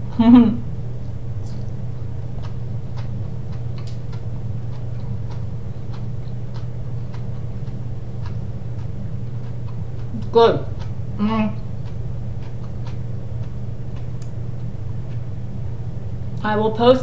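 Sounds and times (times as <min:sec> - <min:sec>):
steady low hum: 0:00.0 - 0:17.0
person chewing: 0:01.0 - 0:15.4.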